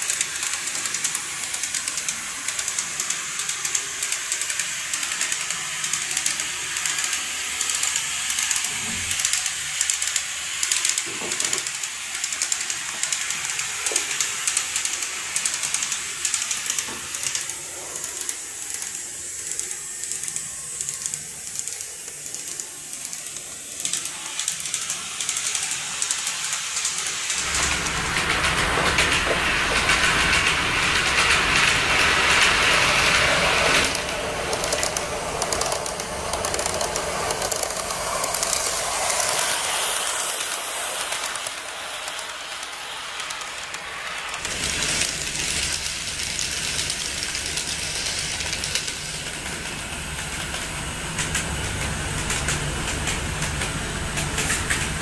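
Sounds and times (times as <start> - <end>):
clicking over rail joints: 0.0 - 55.0
model train wheels rolling hiss: 0.0 - 55.0.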